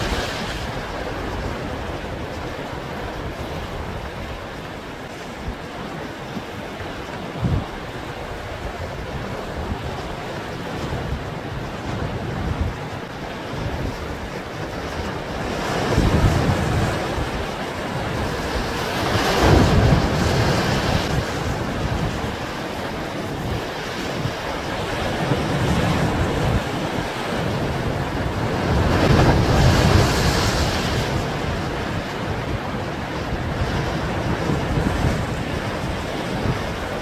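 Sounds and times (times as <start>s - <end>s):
sea surf breaking over rocks: 0.0s - 37.0s
wind buffeting microphone: 0.0s - 37.0s.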